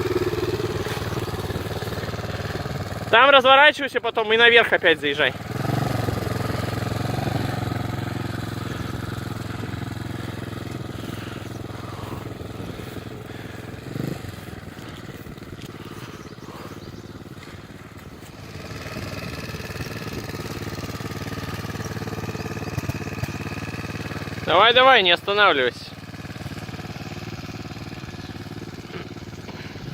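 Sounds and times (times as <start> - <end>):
small motorbike engine running: 0.0 - 29.9.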